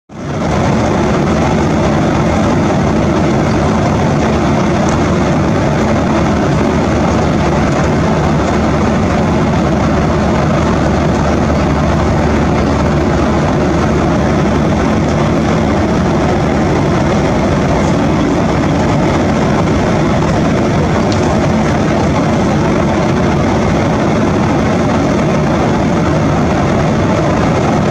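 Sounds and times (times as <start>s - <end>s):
airliner cabin engine and airflow noise: 0.1s - 27.9s.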